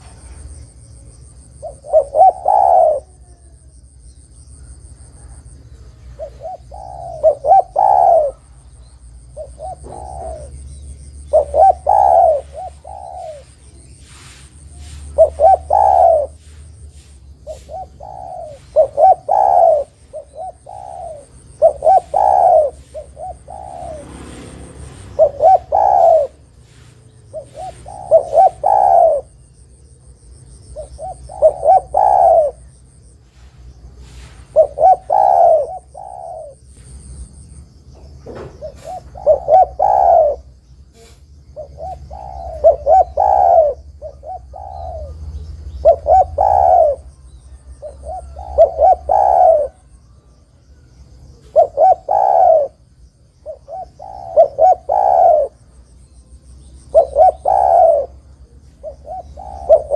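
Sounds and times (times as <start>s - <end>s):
dove cooing: 0.0s - 37.2s, 38.0s - 55.8s, 56.5s - 59.9s.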